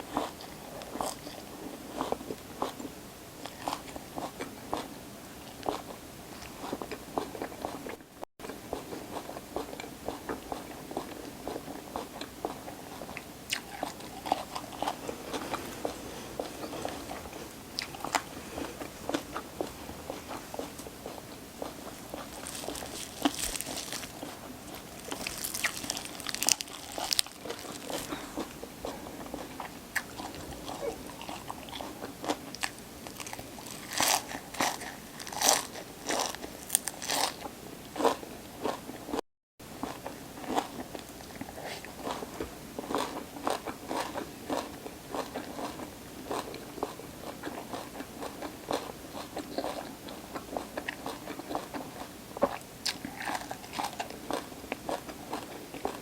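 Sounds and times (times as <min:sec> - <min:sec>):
crunchy chewing of raw vegetables: 0:00.0 - 0:56.0.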